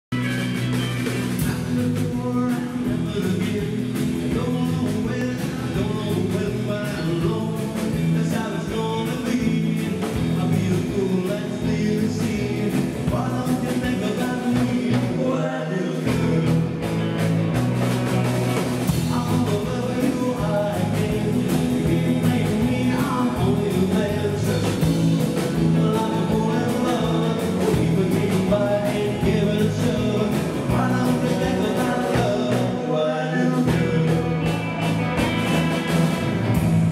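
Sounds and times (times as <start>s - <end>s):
bass guitar: 0.0s - 36.9s
drum kit: 0.0s - 36.9s
electric guitars: 0.1s - 36.9s
man singing: 1.3s - 16.9s, 18.9s - 35.8s.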